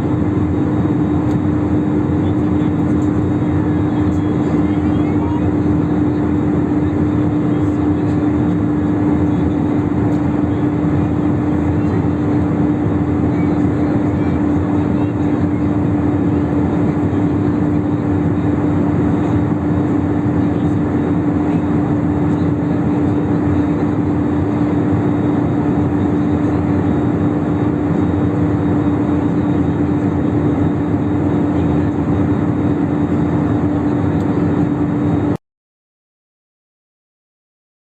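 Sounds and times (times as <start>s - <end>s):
airliner engine and airflow noise: 0.0s - 35.4s
constant low hum: 0.0s - 35.4s.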